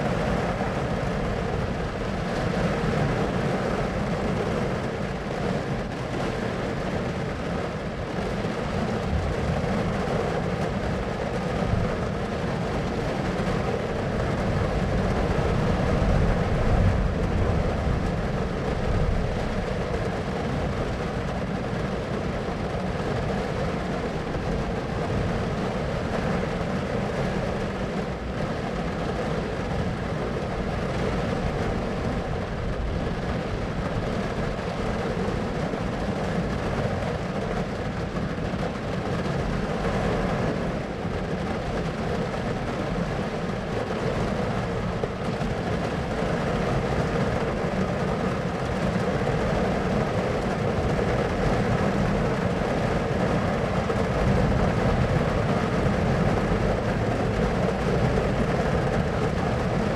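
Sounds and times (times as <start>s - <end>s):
steady rumbling noise: 0.0s - 59.9s.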